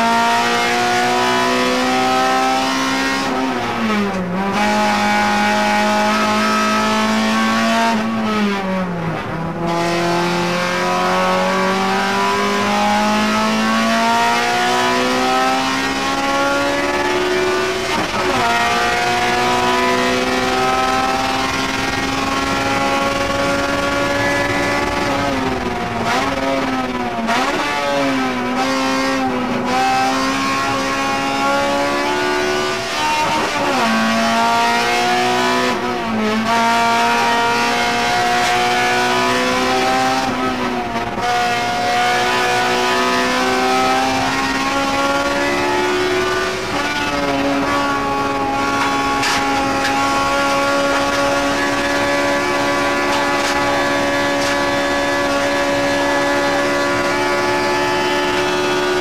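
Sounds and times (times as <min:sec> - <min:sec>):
car engine revving hard: 0:00.0 - 0:59.0.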